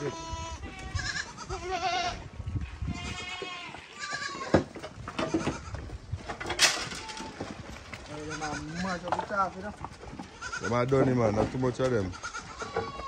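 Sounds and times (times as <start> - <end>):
goats bleating: 0.0 - 5.8, 6.7 - 9.1, 10.0 - 11.1, 11.8 - 13.0.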